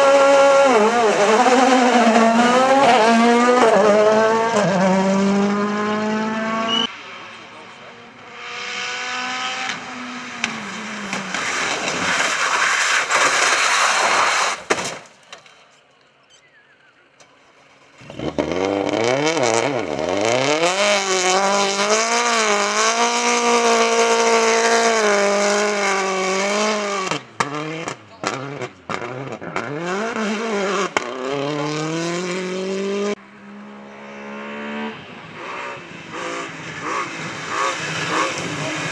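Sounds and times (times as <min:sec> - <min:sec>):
car engine revving: 0:00.0 - 0:14.4, 0:17.9 - 0:38.9
rally car engine and tyres: 0:00.0 - 0:38.9.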